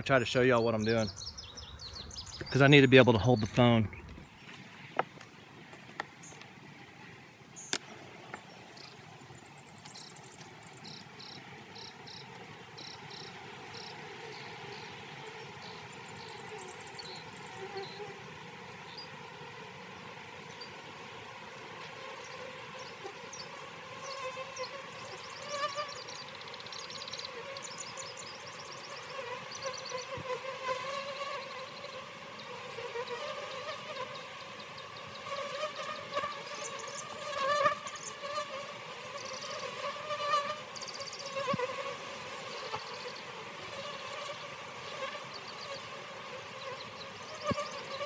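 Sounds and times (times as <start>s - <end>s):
bees buzzing: 7.6s - 48.0s.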